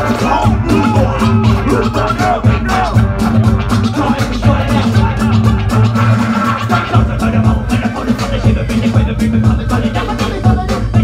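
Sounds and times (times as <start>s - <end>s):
loud hip hop music: 0.0s - 11.0s.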